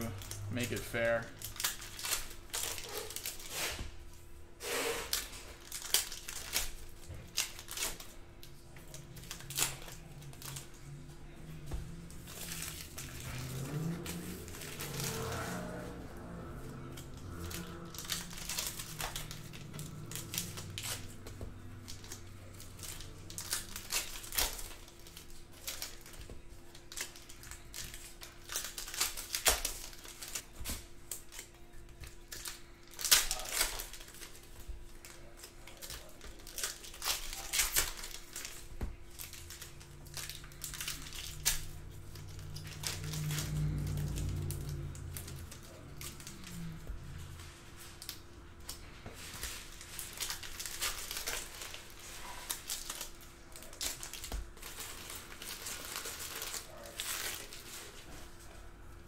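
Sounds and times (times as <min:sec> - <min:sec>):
foil wrappers crinkling and tearing: 0:00.0 - 0:59.0.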